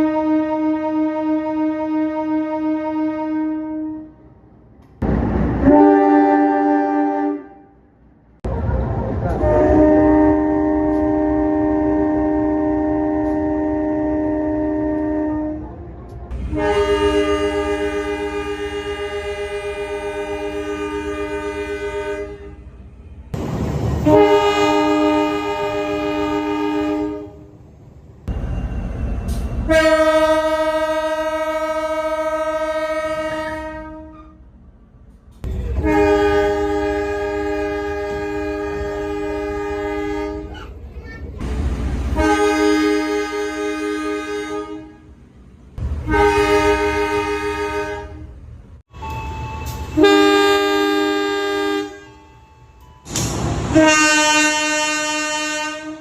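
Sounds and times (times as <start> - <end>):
locomotive horn blasts: 0.0 - 4.2, 5.6 - 7.8, 9.3 - 23.3, 24.0 - 27.5, 29.3 - 34.4, 35.6 - 40.6, 42.1 - 45.2, 46.0 - 56.0.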